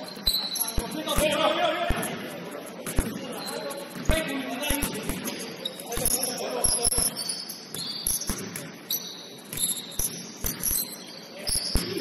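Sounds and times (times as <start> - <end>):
sneakers squeaking on floor: 0.0 - 12.0.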